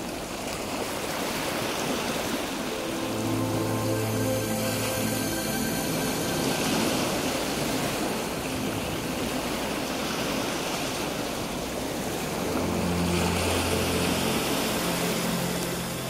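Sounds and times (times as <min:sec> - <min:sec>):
sea waves washing onto beach: 0:00.0 - 0:16.0.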